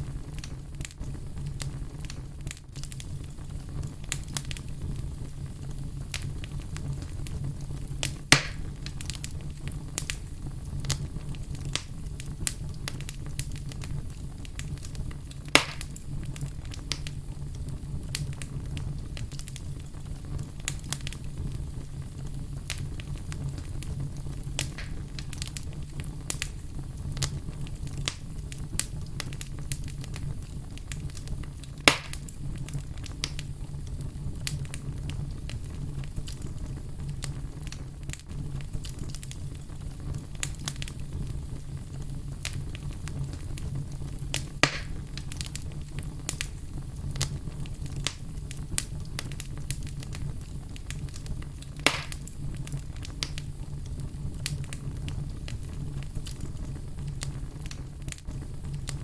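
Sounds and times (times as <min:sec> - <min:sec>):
fire crackling: 0:00.0 - 0:59.0.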